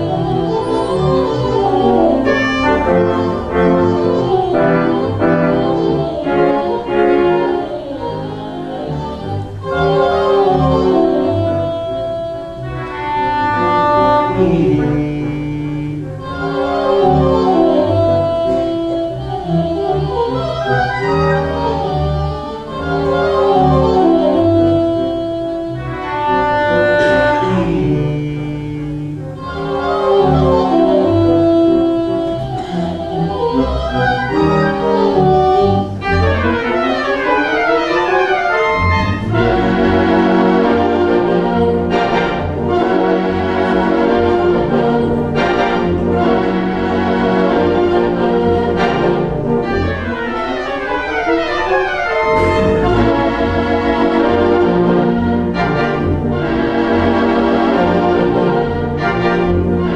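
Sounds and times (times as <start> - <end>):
pipe organ playing a tune: 0.0 - 59.9.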